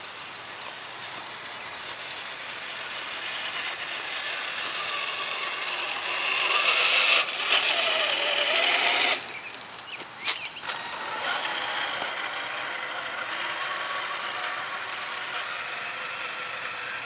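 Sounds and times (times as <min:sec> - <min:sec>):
toy truck electric motor whining: 0:00.5 - 0:09.6, 0:10.2 - 0:17.0.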